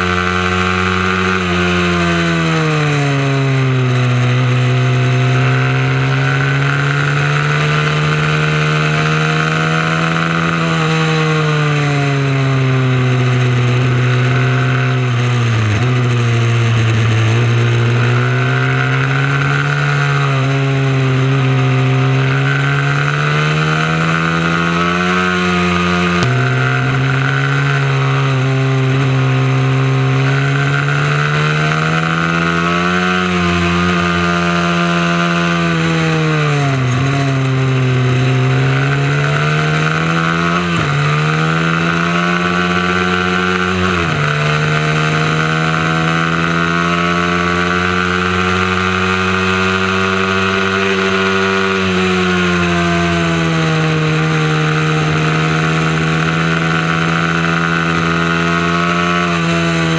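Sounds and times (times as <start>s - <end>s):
mini motorbike engine revving: 0.0s - 59.9s.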